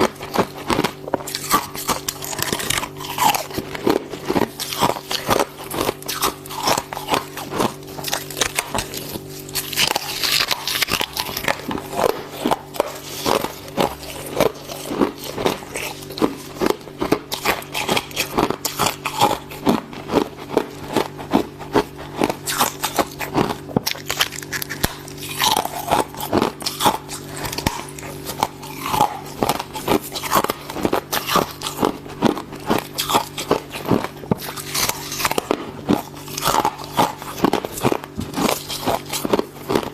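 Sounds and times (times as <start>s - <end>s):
ice being chewed: 0.0s - 39.9s
steady low hum: 0.0s - 39.9s.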